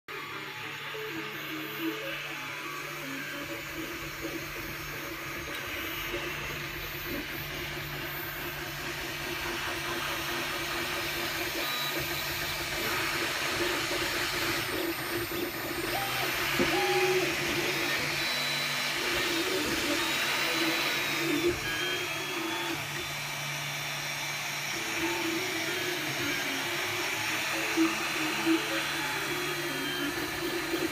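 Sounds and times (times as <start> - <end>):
printer motor tones: 0.1 - 30.9
three d printer fans whirring: 0.1 - 30.9.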